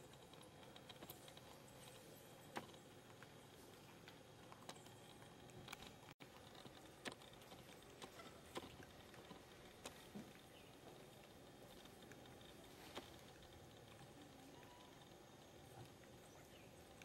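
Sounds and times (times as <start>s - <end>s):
soft irregular clicks: 0.0s - 17.0s.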